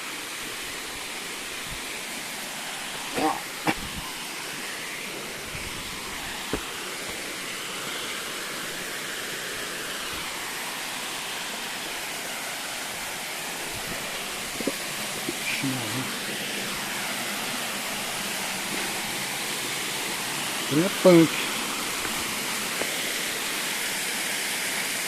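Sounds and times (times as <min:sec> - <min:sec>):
stream and waterfall rushing: 0:00.0 - 0:25.0.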